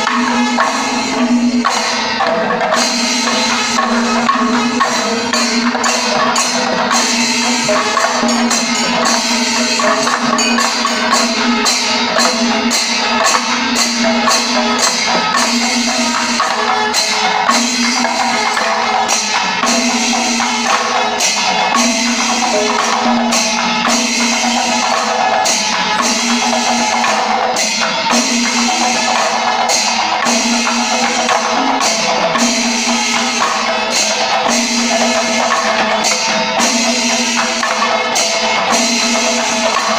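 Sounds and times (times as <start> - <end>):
hourglass drums beaten fast: 0.0 - 39.9.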